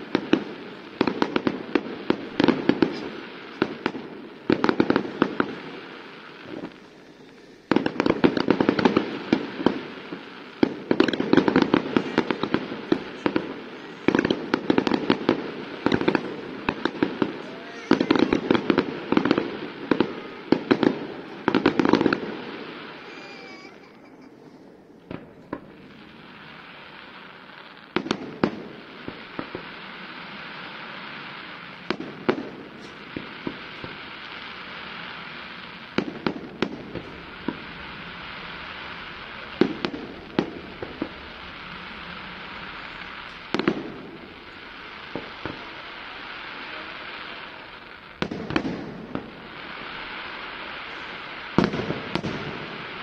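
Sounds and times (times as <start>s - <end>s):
fireworks bangs: 0.0s - 53.0s
steady hiss: 0.0s - 53.0s.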